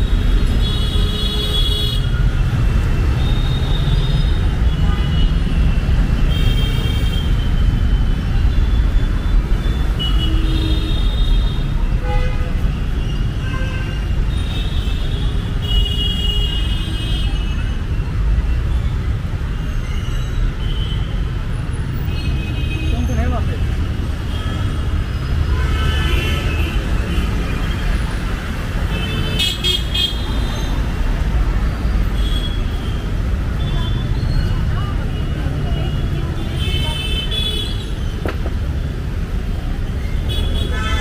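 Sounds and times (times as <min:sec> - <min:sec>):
traffic rumble: 0:00.0 - 0:41.0.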